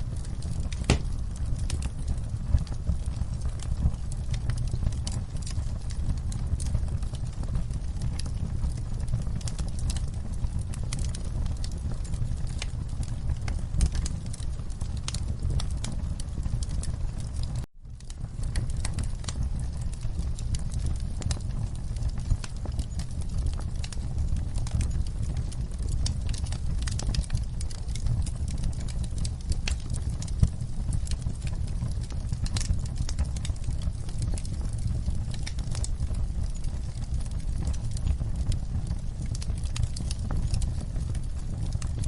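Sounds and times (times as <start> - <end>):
fire flames rumbling: 0.0 - 42.0
logs crackling and popping: 0.0 - 42.0.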